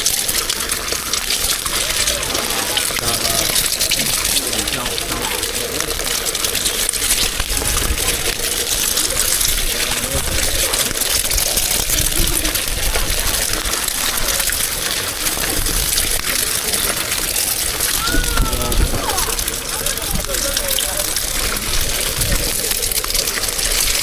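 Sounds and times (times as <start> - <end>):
hot oil sizzling: 0.0 - 24.0.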